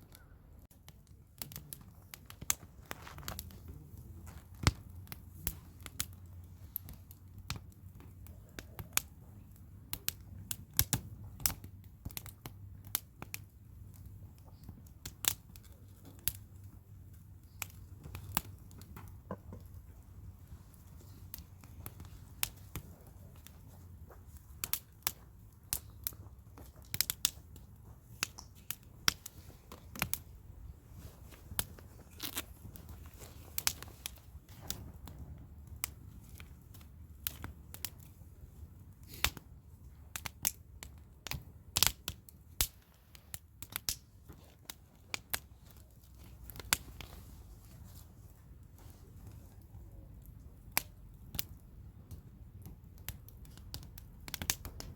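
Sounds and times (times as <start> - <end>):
campfire crackling: 0.0 - 54.9
pops and snaps of burning logs: 0.0 - 54.9.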